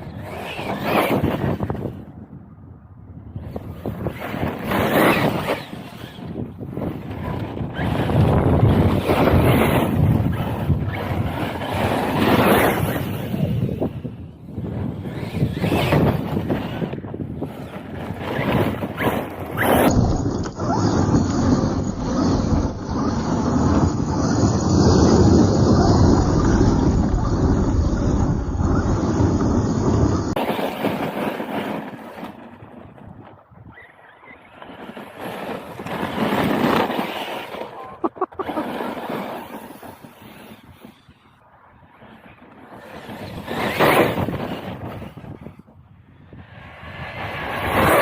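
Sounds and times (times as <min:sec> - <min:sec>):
wind noise on microphone: 0:00.0 - 0:48.0
radio-controlled truck motor: 0:03.4 - 0:32.5, 0:33.7 - 0:45.6.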